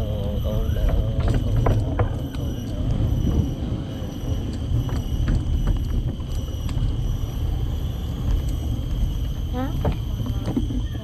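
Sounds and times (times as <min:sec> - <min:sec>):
bicycle tyres rumbling on boardwalk: 0:00.0 - 0:11.0.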